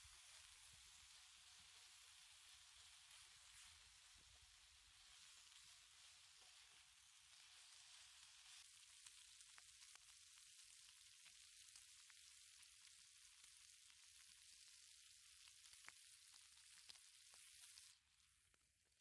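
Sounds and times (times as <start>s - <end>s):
bacon sizzling with pops: 0.0s - 19.0s.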